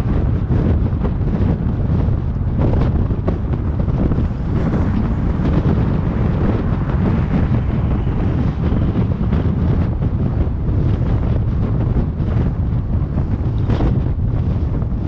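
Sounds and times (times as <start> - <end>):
car driving rumble: 0.0 - 15.0
wind buffeting microphone: 0.0 - 15.0.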